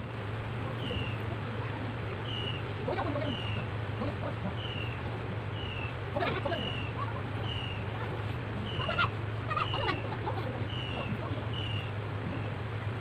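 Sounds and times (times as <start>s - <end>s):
steady low hum: 0.0s - 13.0s
bird calling: 0.6s - 13.0s.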